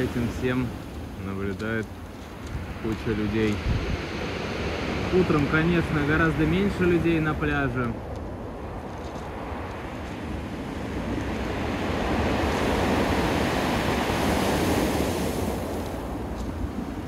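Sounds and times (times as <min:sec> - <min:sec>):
surf breaking on pebble beach: 0:00.0 - 0:17.0.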